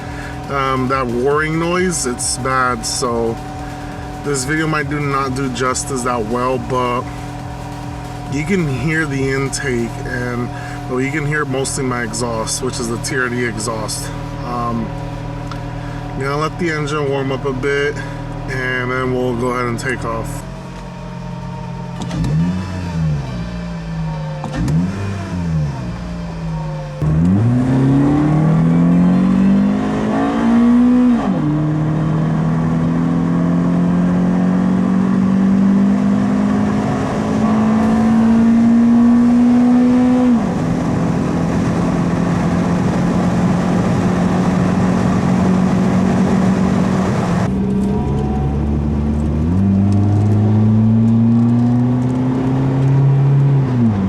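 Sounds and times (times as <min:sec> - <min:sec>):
car engine accelerating through gears: 0:00.0 - 0:54.0
car engine revving: 0:00.0 - 0:54.0.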